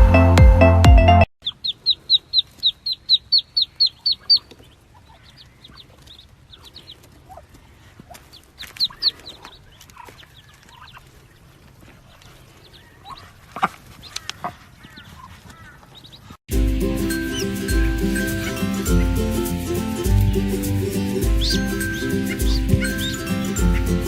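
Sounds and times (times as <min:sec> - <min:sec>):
ducklings peeping: 0:01.4 - 0:24.0.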